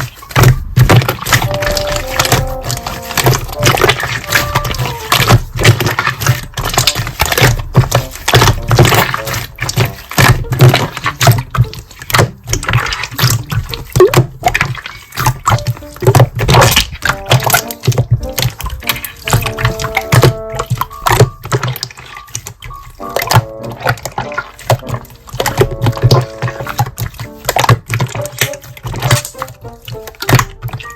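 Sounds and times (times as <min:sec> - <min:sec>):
slime squeezed by hand: 0:00.0 - 0:30.9.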